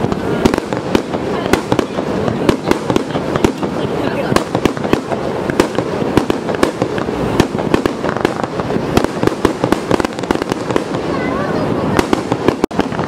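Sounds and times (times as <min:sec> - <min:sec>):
continuous rumble: 0:00.0 - 0:13.0
fireworks bangs and cracks: 0:00.0 - 0:13.0.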